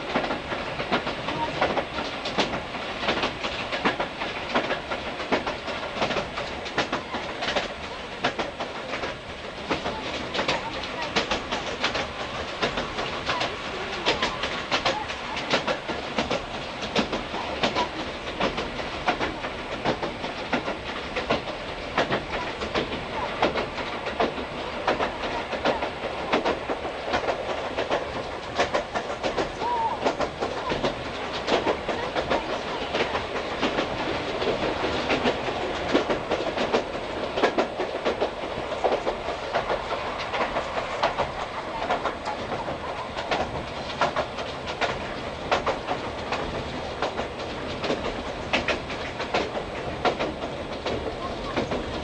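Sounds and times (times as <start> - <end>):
rumble of train wheels on rails: 0.0 - 52.0.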